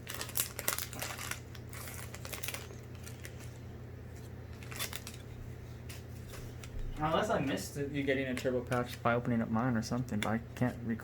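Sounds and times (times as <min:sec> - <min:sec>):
cards and wrappers clicking and rustling: 0:00.0 - 0:05.3, 0:05.9 - 0:10.8
steady low hum: 0:00.0 - 0:11.0.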